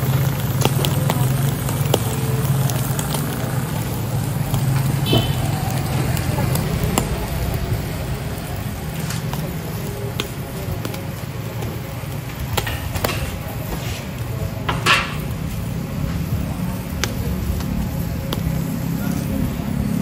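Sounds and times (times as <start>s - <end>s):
steady low rumble: 0.0s - 12.8s, 15.2s - 20.0s
skewers clicking on grill grate: 0.0s - 20.0s.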